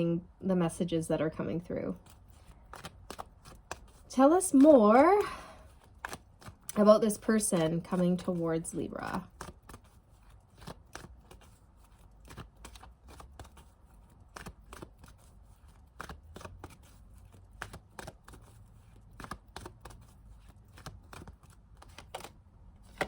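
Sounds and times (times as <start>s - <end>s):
cards being shuffled: 2.0s - 23.0s.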